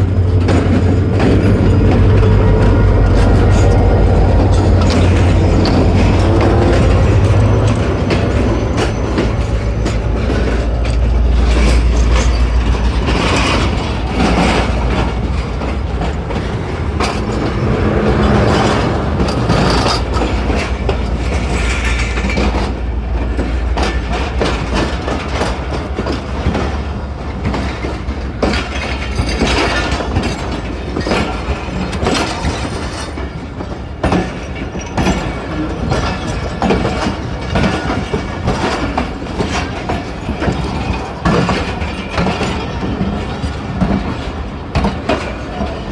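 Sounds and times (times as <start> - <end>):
train rumbling on rails: 0.0 - 45.9
wheels clickety-clack over rail joints: 0.0 - 45.9.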